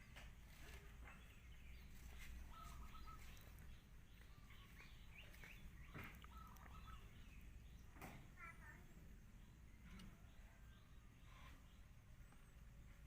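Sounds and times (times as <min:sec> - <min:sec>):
bird chirps: 0:00.5 - 0:13.0.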